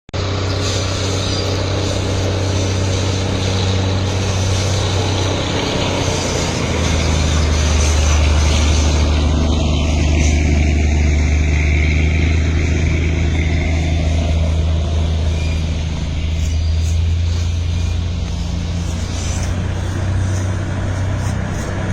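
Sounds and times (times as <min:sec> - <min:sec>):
engine running: 0:00.2 - 0:21.9
running noise: 0:00.2 - 0:21.9.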